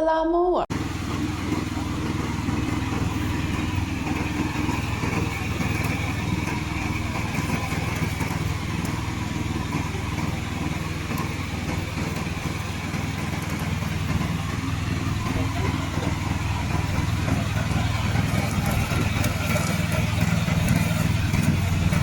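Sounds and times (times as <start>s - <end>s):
mower engine droning: 0.7s - 22.0s.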